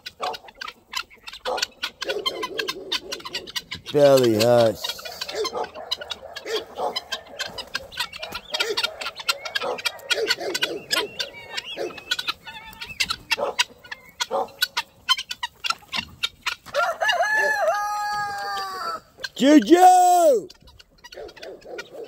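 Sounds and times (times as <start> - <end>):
chickens clucking: 0.0 - 22.0
guineafowl sharp calls: 0.0 - 22.0.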